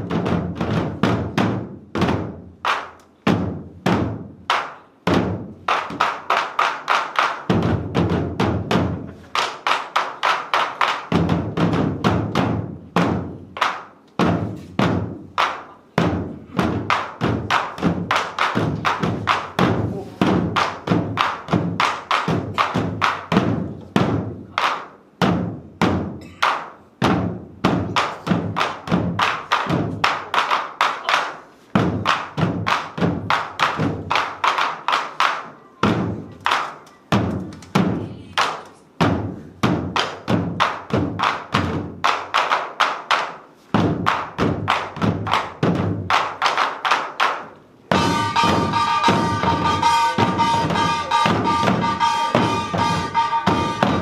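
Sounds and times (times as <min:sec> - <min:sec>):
barrel drums beaten fast: 0:00.0 - 0:54.0.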